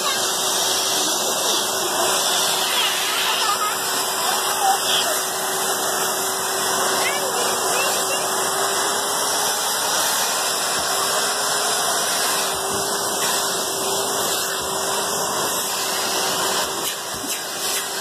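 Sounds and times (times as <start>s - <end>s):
vacuum cleaner suction rushing: 0.0s - 18.0s
vacuum motor whine: 0.0s - 18.0s.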